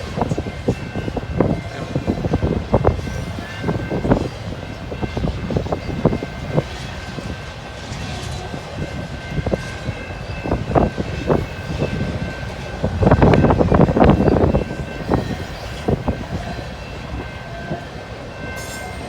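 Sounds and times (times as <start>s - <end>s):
train rumble: 0.0s - 19.0s
train wheels clacking on rails: 0.0s - 19.0s.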